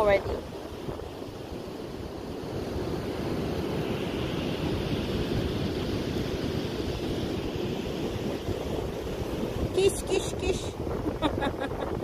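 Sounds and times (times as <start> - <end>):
surf on sand beach: 0.0 - 12.0
wind on microphone: 0.0 - 12.0.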